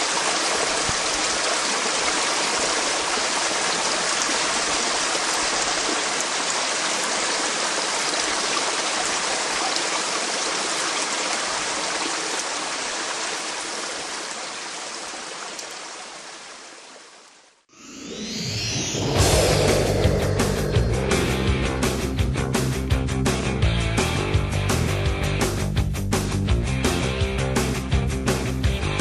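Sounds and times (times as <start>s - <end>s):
running water rushing: 0.0s - 23.6s.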